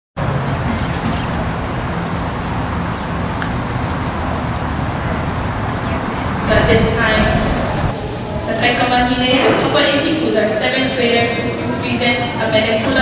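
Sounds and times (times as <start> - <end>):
road traffic rumble: 0.2 - 13.0.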